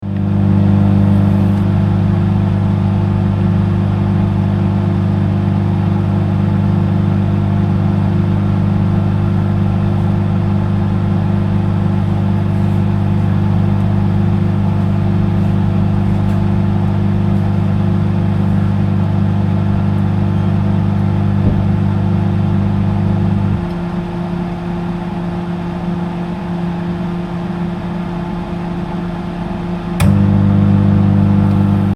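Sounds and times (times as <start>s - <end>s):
microwave oven humming: 0.0s - 31.9s.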